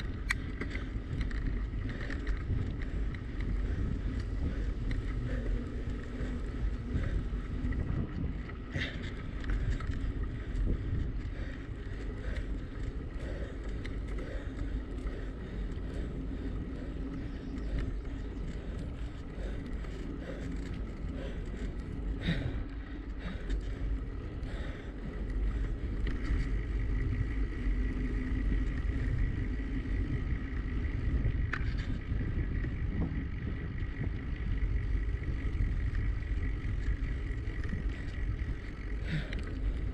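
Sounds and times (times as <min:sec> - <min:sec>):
tyre and road noise: 0:00.0 - 0:39.9
wind rumbling on microphone: 0:00.0 - 0:39.9.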